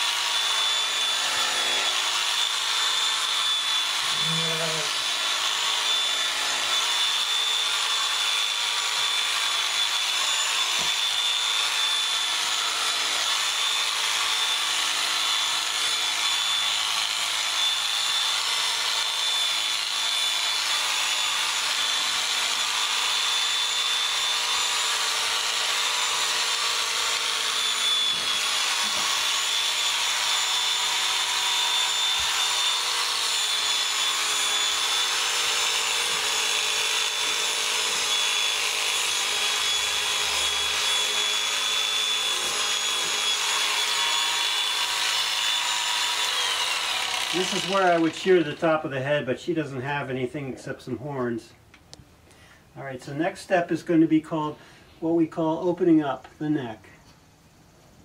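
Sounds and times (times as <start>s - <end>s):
electric shears whining: 0.0s - 49.7s.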